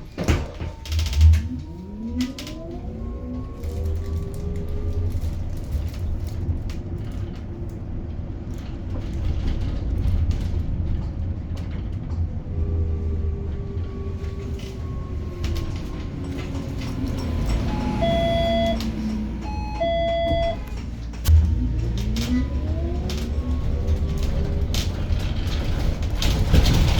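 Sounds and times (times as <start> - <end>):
bus road rumble: 0.0 - 26.9.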